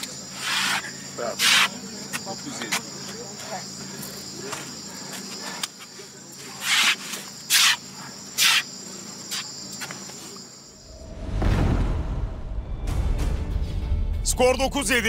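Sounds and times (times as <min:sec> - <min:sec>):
crickets chirring: 0:00.0 - 0:12.9.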